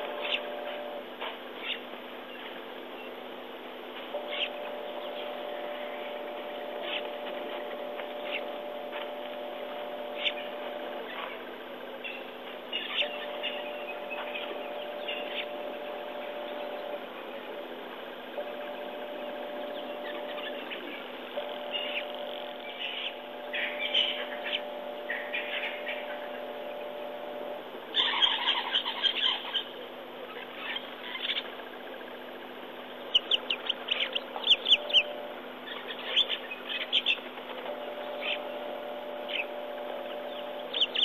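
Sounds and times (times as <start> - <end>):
steady hum: 0.0 - 41.0
wild birds chirping: 0.0 - 41.0.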